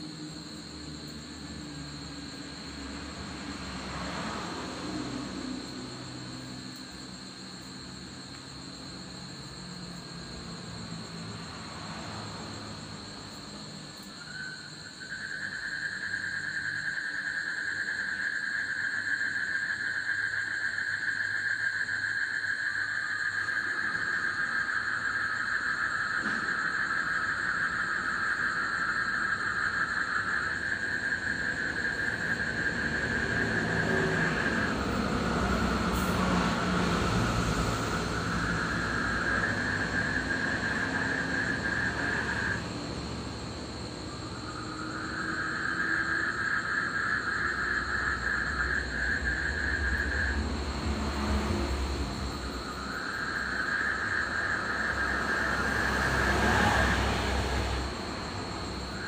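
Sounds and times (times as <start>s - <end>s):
distant traffic rumble: 0.0s - 59.0s
frogs trilling: 0.0s - 59.0s.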